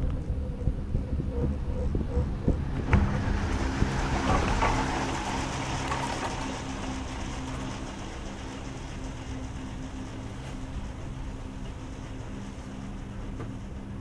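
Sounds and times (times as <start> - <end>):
gondola cabin rumble and rattle: 0.0 - 14.0.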